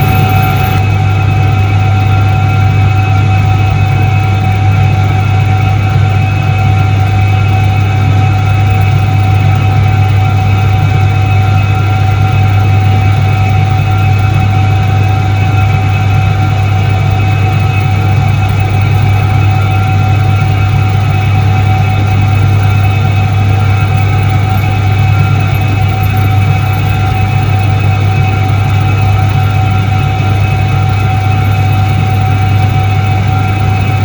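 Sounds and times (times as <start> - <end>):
washing machine motor hum: 0.0 - 3.0, 3.9 - 34.0
thin constant whine: 0.0 - 34.0.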